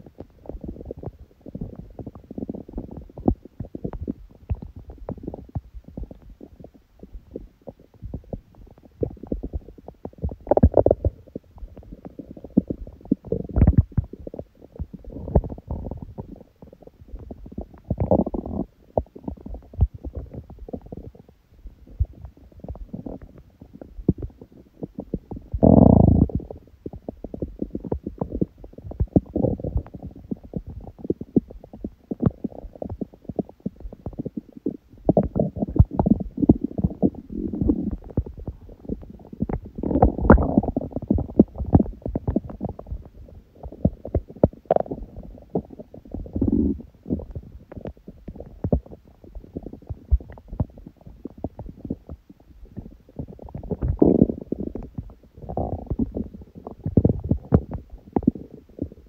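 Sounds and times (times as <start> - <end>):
stomach growling: 0.0 - 59.0.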